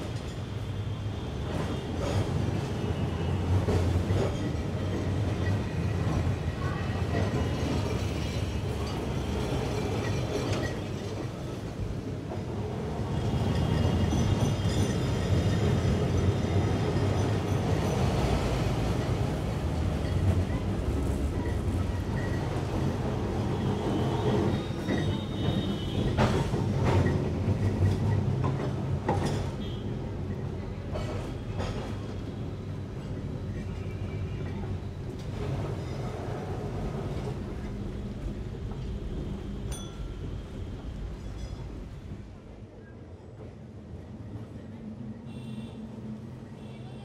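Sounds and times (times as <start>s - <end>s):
tram rumbling on rails: 0.0s - 47.0s.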